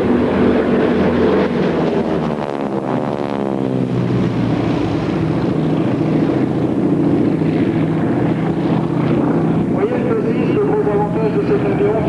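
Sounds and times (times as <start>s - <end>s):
propeller aircraft droning overhead: 0.0s - 12.0s.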